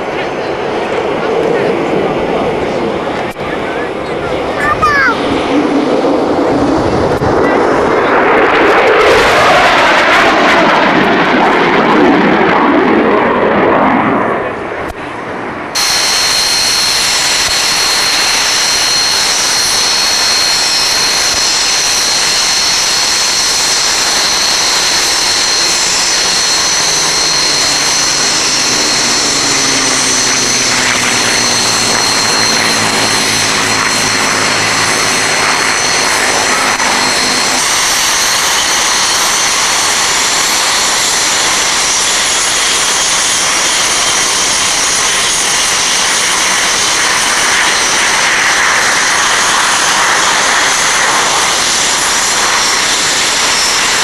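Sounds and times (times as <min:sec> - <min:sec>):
jet flying past: 0:00.0 - 0:54.0
jet turbine whine: 0:00.0 - 0:54.0
propeller aircraft passing: 0:00.0 - 0:54.0.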